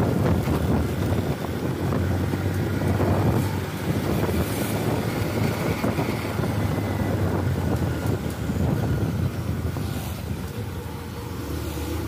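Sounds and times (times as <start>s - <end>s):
diesel truck engine under load: 0.0s - 12.0s
wind noise on microphone: 0.0s - 12.0s.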